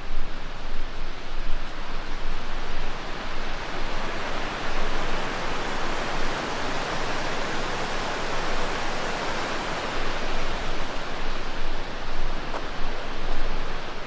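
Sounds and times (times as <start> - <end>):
river rushing: 2.1 - 14.0.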